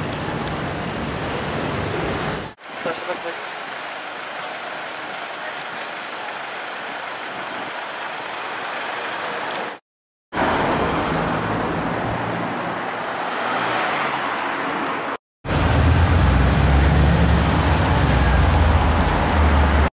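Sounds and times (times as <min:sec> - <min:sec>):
street traffic noise: 0:00.0 - 0:19.9.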